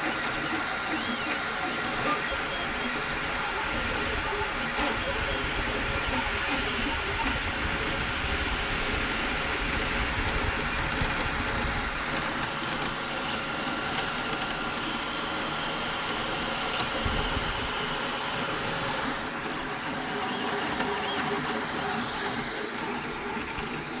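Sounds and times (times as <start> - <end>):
small machine whirring: 0.0 - 24.0
thin steady whine: 0.0 - 24.0.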